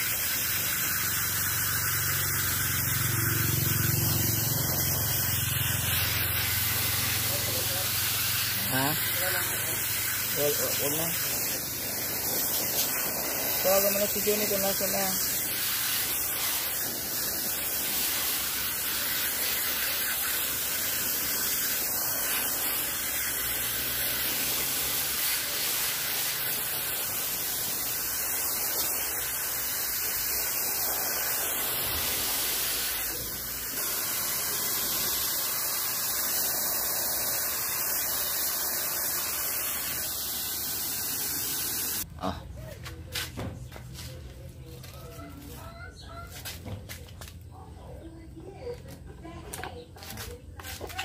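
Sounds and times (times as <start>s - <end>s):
water jet spraying metal fins: 0.0s - 42.1s.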